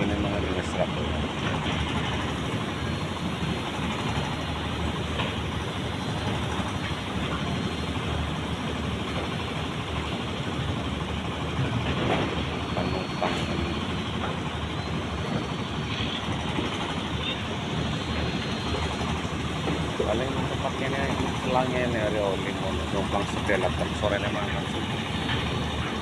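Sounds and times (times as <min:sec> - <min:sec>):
harbour background rumble: 0:00.0 - 0:26.0.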